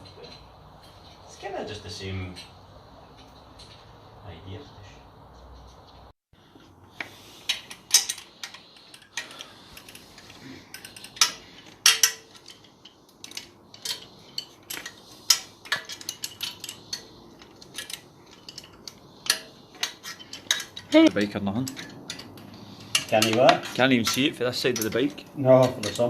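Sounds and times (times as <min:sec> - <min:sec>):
metal tools clinking: 0:00.0 - 0:03.9, 0:06.5 - 0:26.0.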